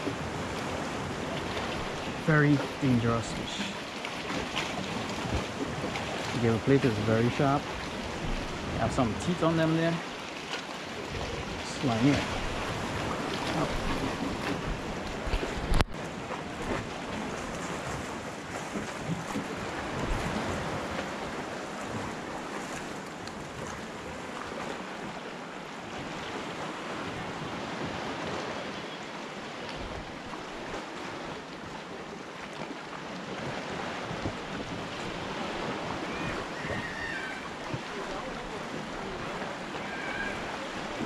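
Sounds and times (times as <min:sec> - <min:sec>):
waves lapping against rocks: 0:00.0 - 0:41.0.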